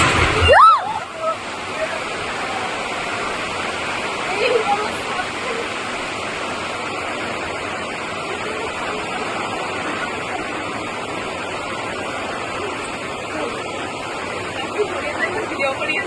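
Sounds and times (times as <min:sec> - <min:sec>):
rainwater pouring: 0:00.0 - 0:16.0.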